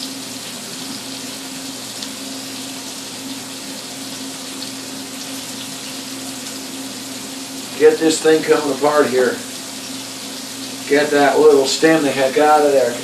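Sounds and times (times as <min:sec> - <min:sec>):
exhaust fan hissing and humming: 0:00.0 - 0:13.0.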